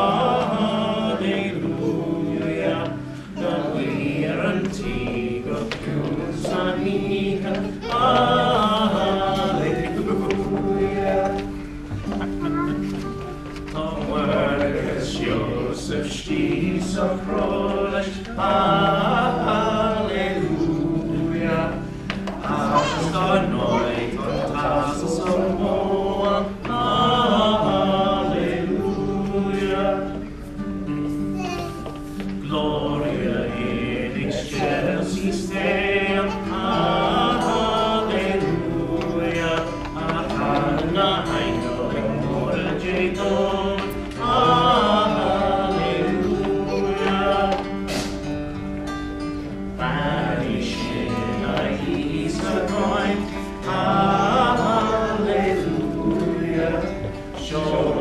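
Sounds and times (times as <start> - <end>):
acoustic guitar: 0.0 - 58.0
mixed group singing: 0.0 - 58.0.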